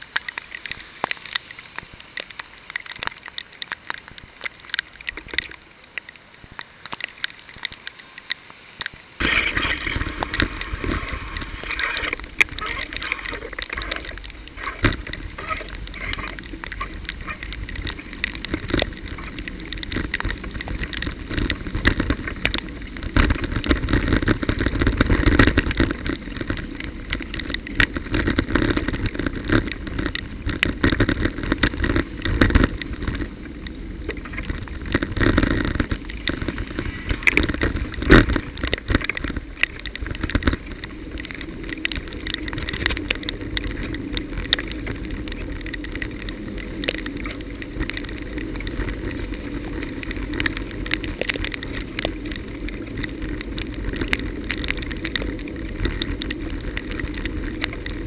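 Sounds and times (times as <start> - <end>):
vehicles passing on wet road: 5.8 - 58.0
steady low rumble: 9.0 - 58.0.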